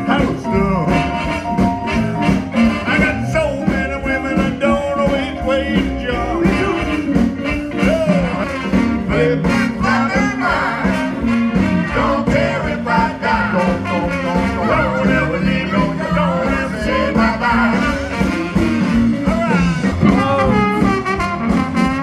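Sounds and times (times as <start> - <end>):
horns: 0.0 - 22.0
live blues band playing: 0.0 - 22.0.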